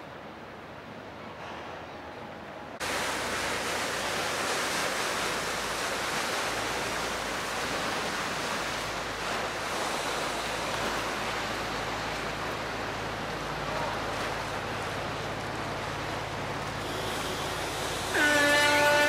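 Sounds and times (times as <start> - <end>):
choppy river water: 0.0 - 19.0
ferry engine drone: 2.7 - 19.0.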